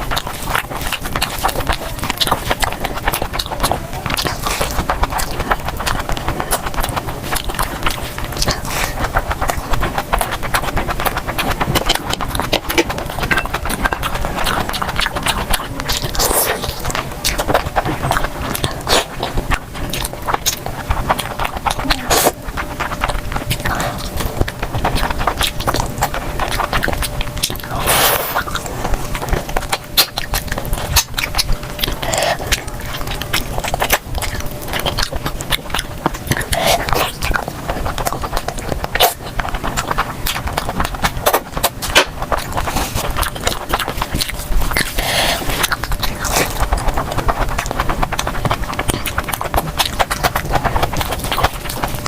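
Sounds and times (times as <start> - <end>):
chewing and mouth noises: 0.0 - 52.0
swallowing or slurping: 0.1 - 52.0.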